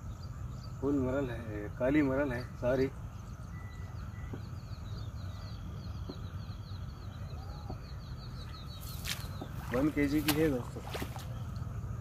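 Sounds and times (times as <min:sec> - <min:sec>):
low outdoor rumble: 0:00.0 - 0:12.0
small bird chirping rapidly: 0:00.0 - 0:12.0.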